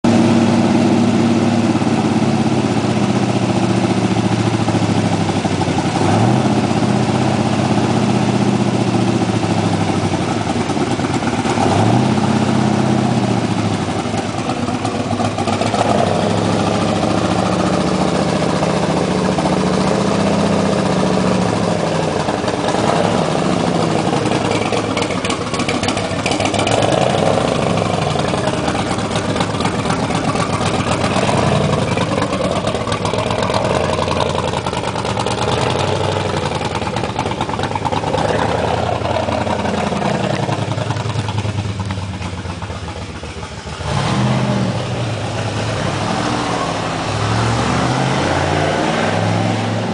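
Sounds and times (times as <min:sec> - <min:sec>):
car engine revving and idling: 0:00.0 - 0:49.9.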